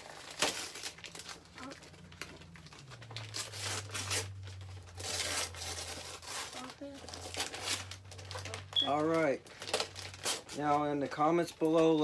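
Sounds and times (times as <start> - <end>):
wrapping paper tearing: 0.0 - 12.0.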